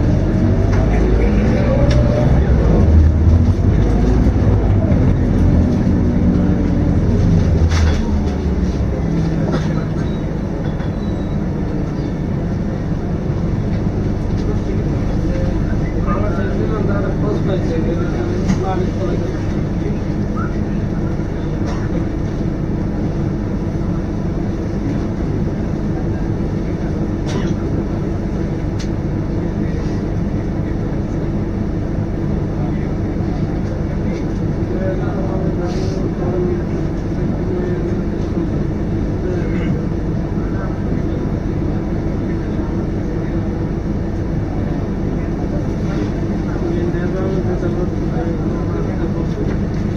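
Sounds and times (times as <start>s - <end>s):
bus diesel engine drone: 0.0s - 49.9s.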